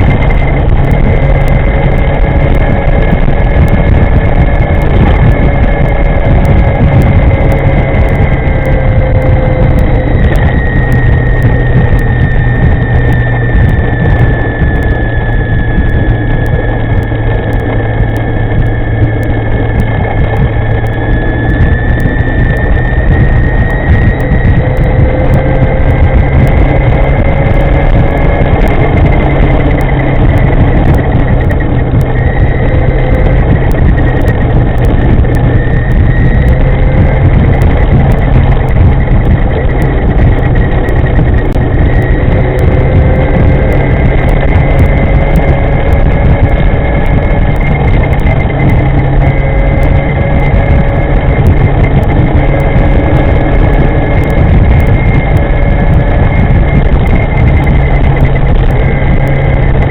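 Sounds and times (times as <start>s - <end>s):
electric motor whine: 0.0s - 59.9s
wind and road rumble: 0.0s - 59.9s.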